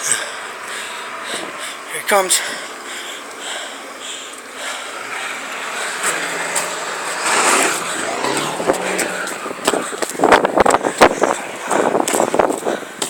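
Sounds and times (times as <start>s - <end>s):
truck driving past: 0.0s - 12.4s.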